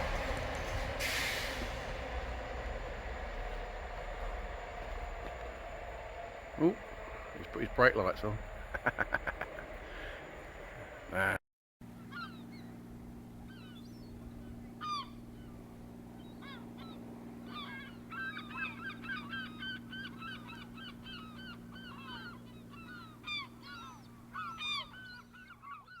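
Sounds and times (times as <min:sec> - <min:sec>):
low hum: 0:00.0 - 0:24.4.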